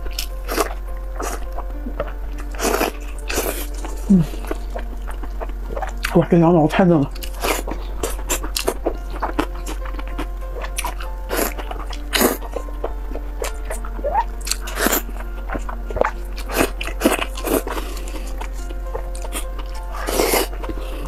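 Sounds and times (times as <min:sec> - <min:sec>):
wet chewing and slurping: 0:00.0 - 0:06.2, 0:07.2 - 0:21.0
background music: 0:00.0 - 0:21.0.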